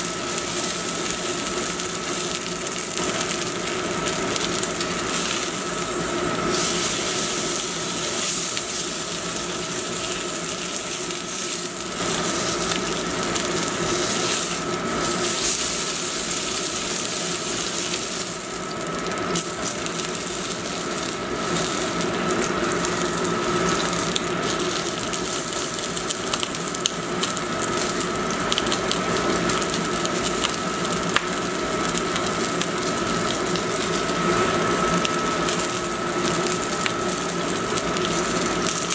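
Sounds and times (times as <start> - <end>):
steak sizzling in a skillet: 0.0 - 38.9.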